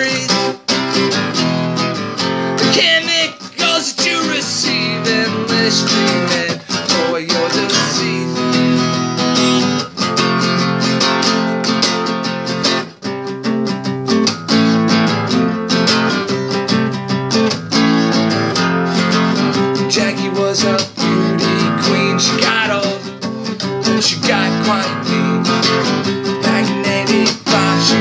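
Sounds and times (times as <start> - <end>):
acoustic guitar strummed: 0.0 - 28.0.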